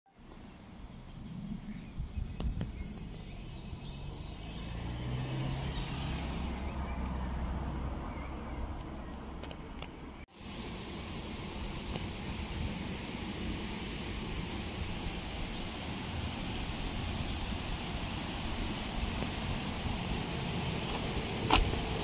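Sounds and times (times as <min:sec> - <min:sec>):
low outdoor rumble: 0:00.2 - 0:22.0.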